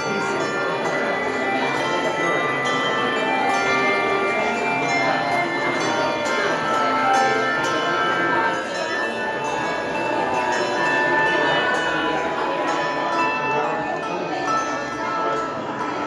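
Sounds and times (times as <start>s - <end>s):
handbell choir playing: 0.0s - 16.0s.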